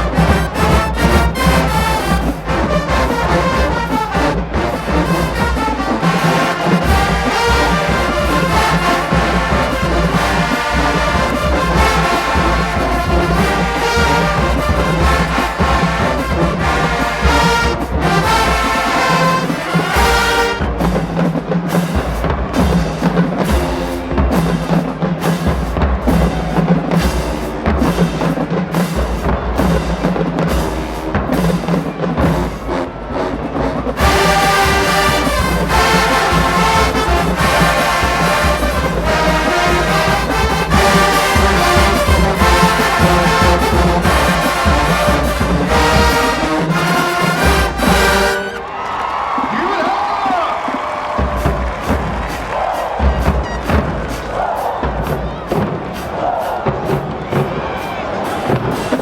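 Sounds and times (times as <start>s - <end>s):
drum beat: 0.0s - 59.0s
marching band brass: 0.0s - 59.0s.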